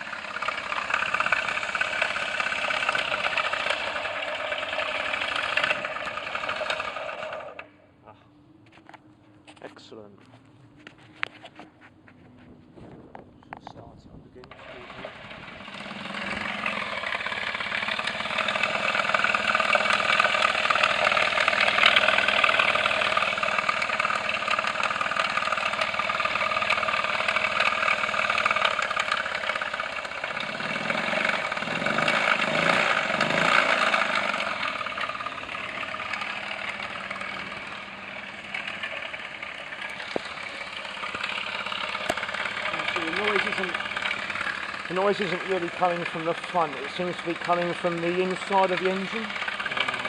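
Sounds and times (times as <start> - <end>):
scooter engine running: 0.0 - 7.7, 14.5 - 50.0
strange noise inside engine: 0.0 - 50.0.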